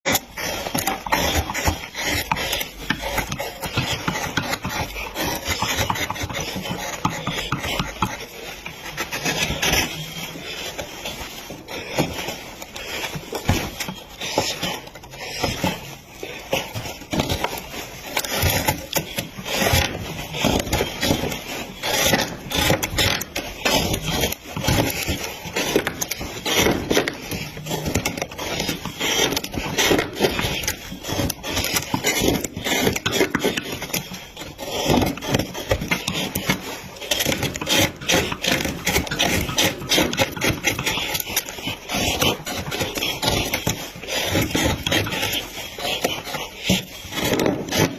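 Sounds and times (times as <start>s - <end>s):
tool scraping and cutting wood: 0.0s - 47.9s.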